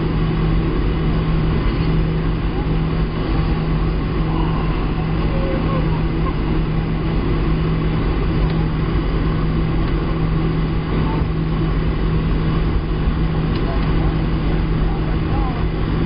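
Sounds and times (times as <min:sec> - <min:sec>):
jet cabin engine rush: 0:00.0 - 0:16.0.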